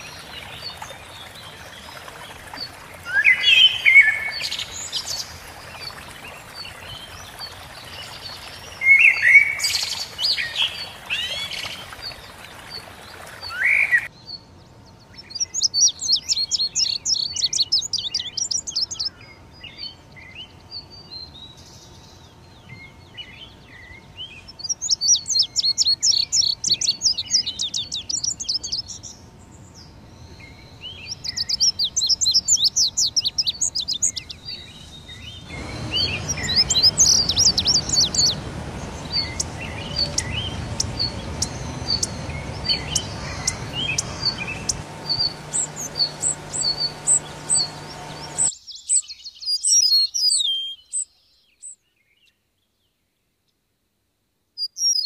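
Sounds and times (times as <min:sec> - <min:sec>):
songbird chirping: 0:00.0 - 0:53.6.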